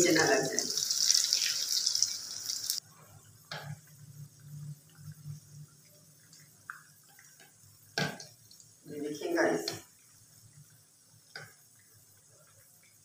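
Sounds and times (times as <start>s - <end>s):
food sizzling in hot oil: 0.0s - 2.8s, 3.6s - 13.0s.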